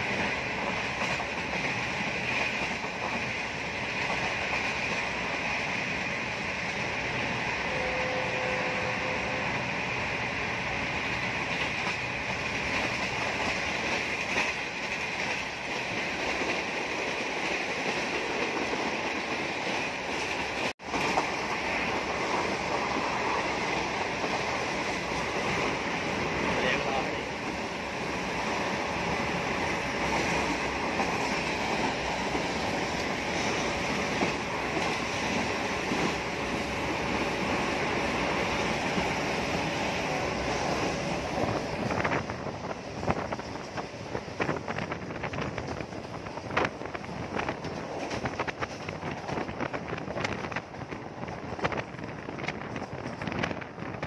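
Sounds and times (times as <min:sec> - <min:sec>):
railcar running on track: 0:00.0 - 0:54.0.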